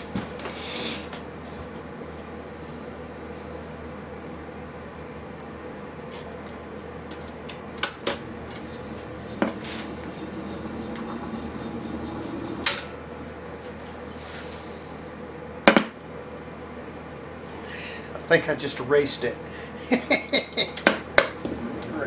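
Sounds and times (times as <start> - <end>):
wire recorder mechanical hum: 0.0 - 22.0.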